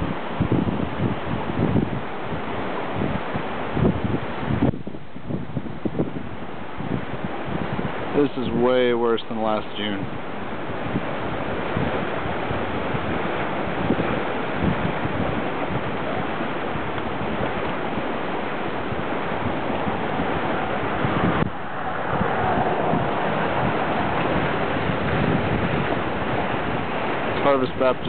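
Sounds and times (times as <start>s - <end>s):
rushing floodwater: 0.0s - 28.0s
wind buffeting microphone: 0.0s - 28.0s.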